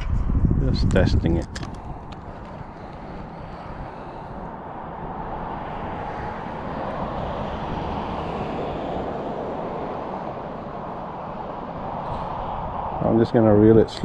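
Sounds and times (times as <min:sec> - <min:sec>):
passing road traffic: 0:00.0 - 0:14.0.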